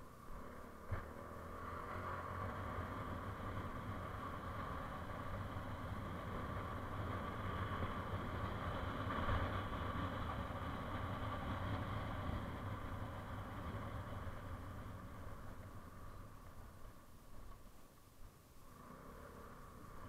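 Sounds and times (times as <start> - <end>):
low engine hum: 0.0 - 20.0
road and tyre noise: 0.0 - 20.0.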